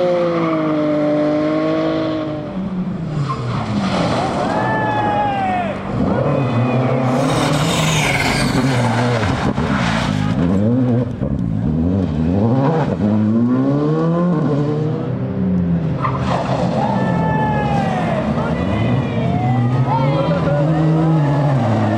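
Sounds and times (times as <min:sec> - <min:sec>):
rally car engine revving: 0:00.0 - 0:21.9.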